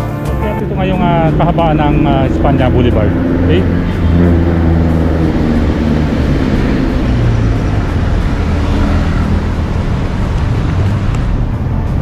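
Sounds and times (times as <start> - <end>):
road noise: 0.0 - 12.0
vehicle engines passing: 0.0 - 12.0.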